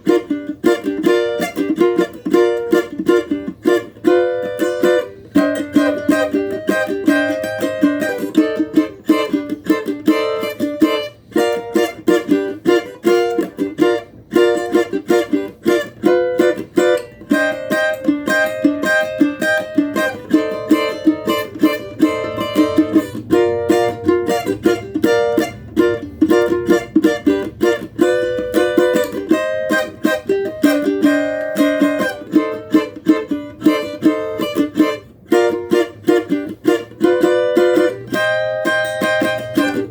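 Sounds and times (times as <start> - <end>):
cavaquinho plucked and strummed: 0.0 - 39.9.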